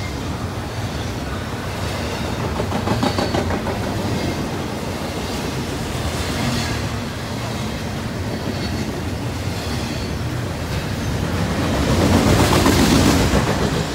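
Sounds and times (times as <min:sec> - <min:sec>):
train wheels rumbling and clacking: 0:00.0 - 0:13.9.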